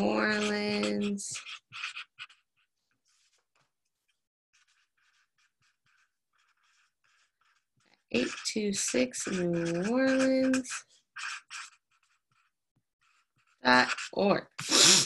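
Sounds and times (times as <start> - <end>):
handwriting scratching: 0.0 - 15.0.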